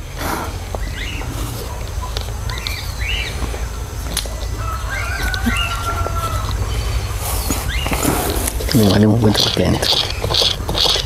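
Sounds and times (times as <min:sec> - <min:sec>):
low rumble: 0:00.0 - 0:09.3
birds chirping: 0:00.0 - 0:11.0.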